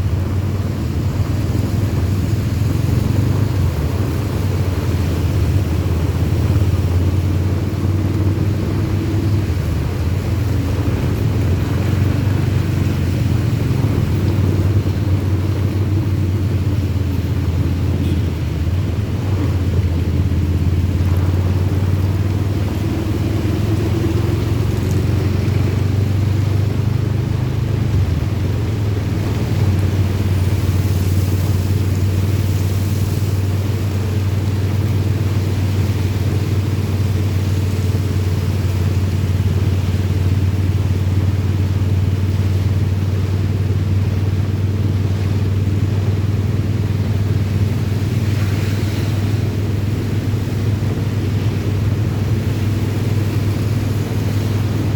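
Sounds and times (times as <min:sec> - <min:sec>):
road vehicle driving: 0:00.0 - 0:54.9.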